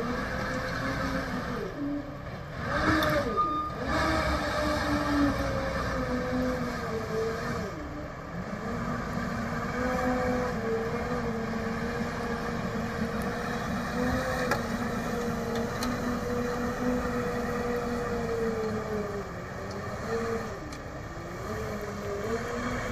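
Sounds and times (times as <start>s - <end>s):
off-road vehicle engine under load: 0.0s - 22.9s.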